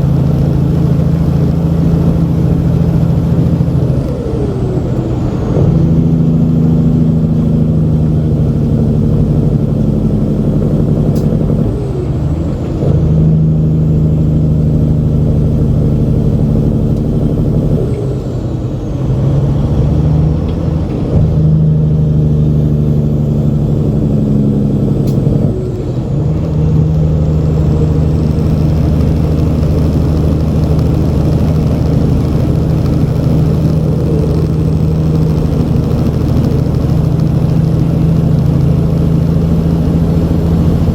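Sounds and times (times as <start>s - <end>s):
truck diesel engine pulling: 0.0s - 40.9s.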